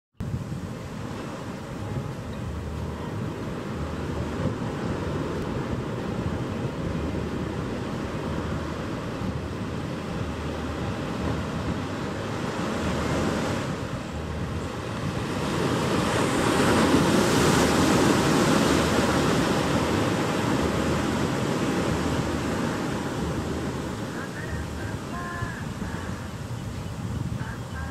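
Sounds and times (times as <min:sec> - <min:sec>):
ocean surf on a beach: 0:00.2 - 0:27.9
wind rumble on microphone: 0:00.2 - 0:27.9.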